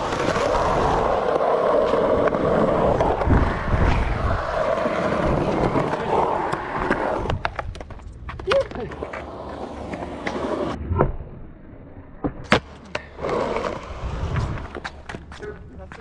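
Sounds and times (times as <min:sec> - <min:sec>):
skateboard wheels rolling on concrete: 0:00.0 - 0:10.8, 0:11.8 - 0:16.0.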